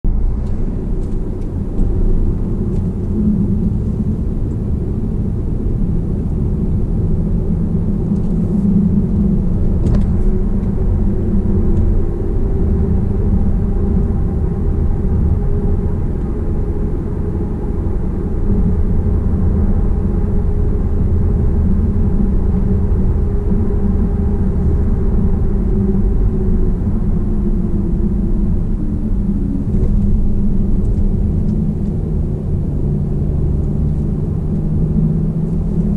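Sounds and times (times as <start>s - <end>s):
car tyres and engine rumble: 0.0s - 35.9s.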